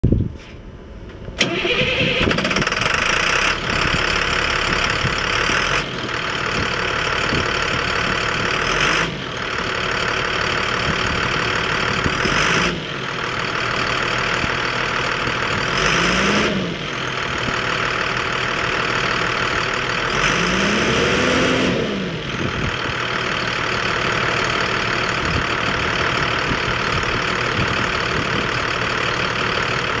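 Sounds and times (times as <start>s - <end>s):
diesel truck engine starting and idling: 0.7s - 30.0s
diesel engine revving: 1.4s - 30.0s.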